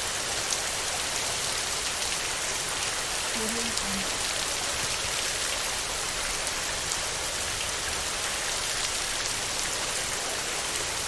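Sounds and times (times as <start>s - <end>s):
heavy rain on a tin roof: 0.0s - 11.0s.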